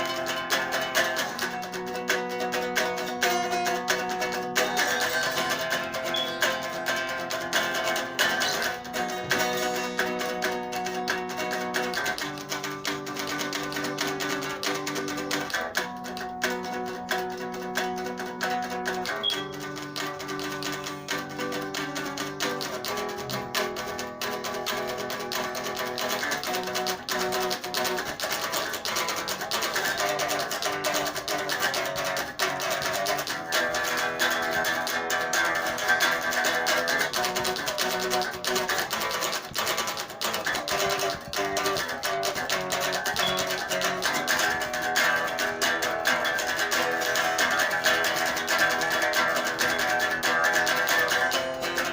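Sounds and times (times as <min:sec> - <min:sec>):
acoustic guitar picking: 0:00.0 - 0:51.9.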